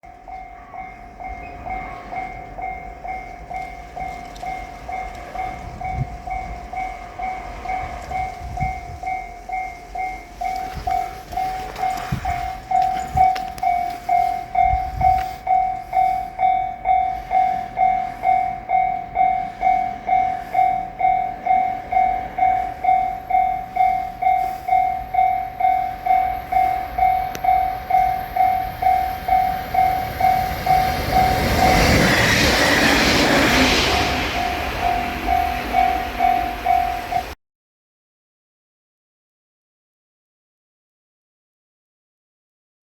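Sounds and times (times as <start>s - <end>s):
level crossing warning bell: 0.0s - 37.4s.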